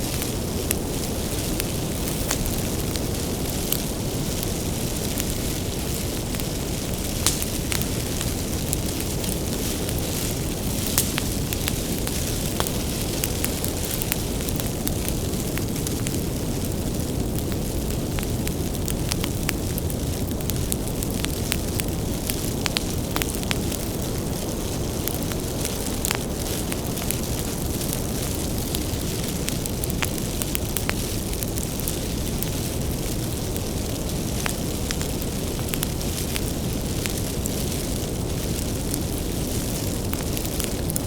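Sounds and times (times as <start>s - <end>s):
low rumble of flames: 0.0s - 41.0s
wood crackling and popping: 0.0s - 41.0s.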